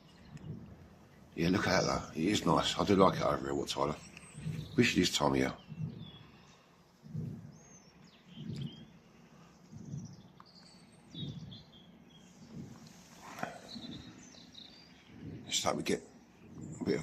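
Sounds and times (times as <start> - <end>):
birds calling and chirping: 0.0 - 17.0
low muffled puffs: 0.0 - 17.0.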